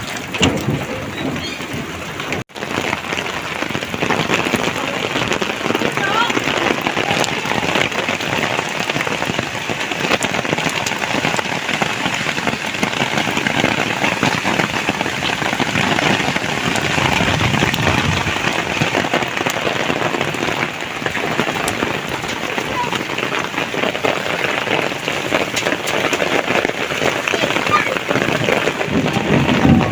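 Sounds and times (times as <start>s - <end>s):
heavy rain falling: 0.0s - 29.9s.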